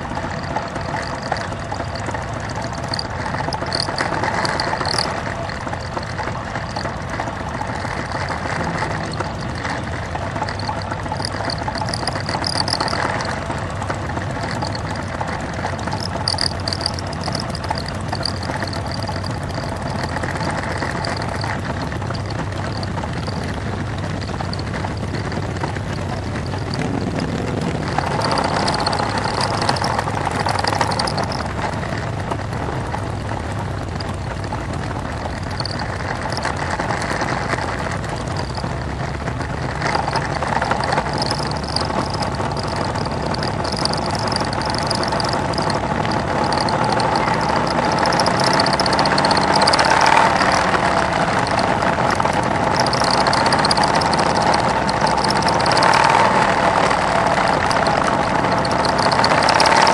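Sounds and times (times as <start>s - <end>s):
motorcycle engines droning: 0.0s - 59.9s.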